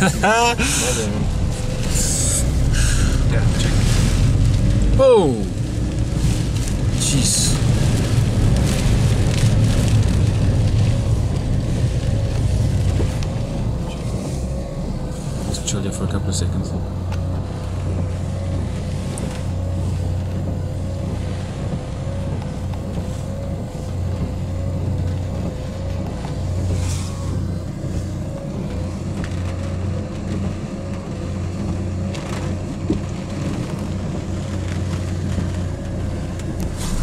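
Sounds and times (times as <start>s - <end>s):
car engine idling: 0.0s - 37.0s
rain and wind hissing on car: 0.0s - 37.0s.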